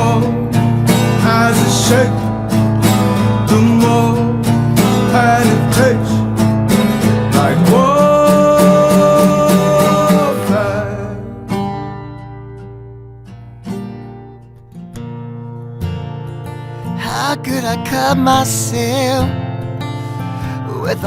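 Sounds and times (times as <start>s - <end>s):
song with guitar: 0.0s - 21.0s.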